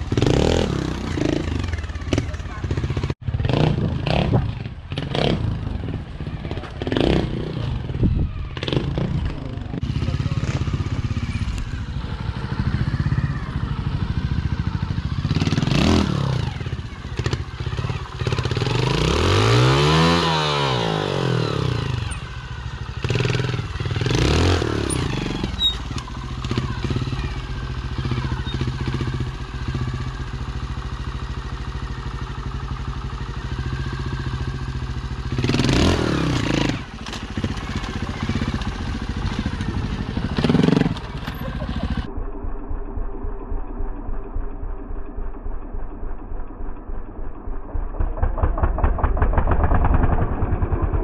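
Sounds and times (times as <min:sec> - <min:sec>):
motorcycle engine throttle blips: 0:00.0 - 0:20.8, 0:21.5 - 0:51.0.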